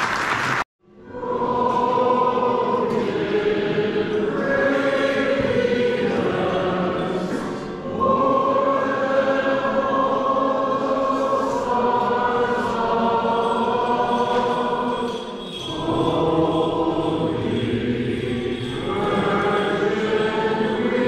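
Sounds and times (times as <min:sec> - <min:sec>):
choir singing held chords: 0:00.9 - 0:21.0.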